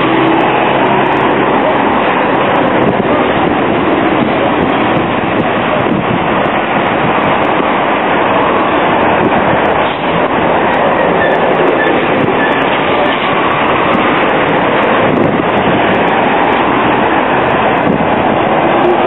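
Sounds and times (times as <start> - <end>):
street traffic passing close: 0.0 - 19.0.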